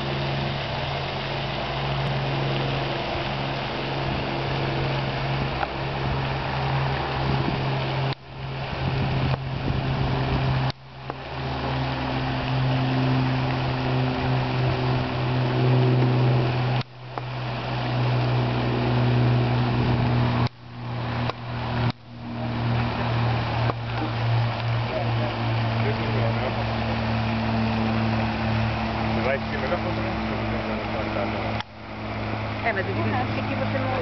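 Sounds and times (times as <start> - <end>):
engine running with low hum: 0.0 - 34.0.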